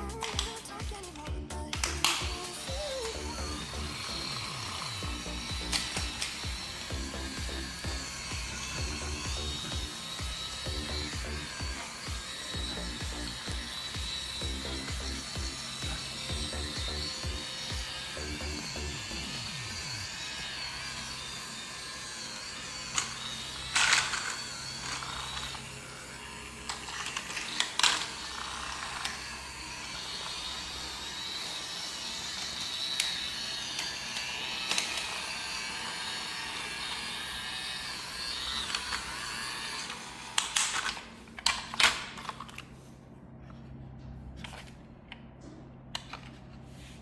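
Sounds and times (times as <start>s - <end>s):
small electric motor whirring: 0.0s - 43.0s.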